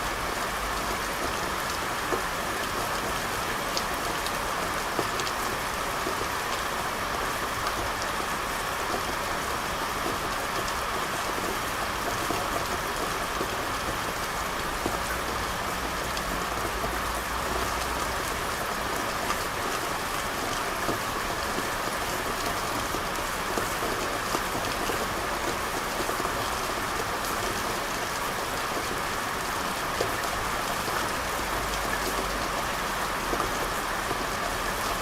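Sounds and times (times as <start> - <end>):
rain on hard street: 0.0 - 35.0.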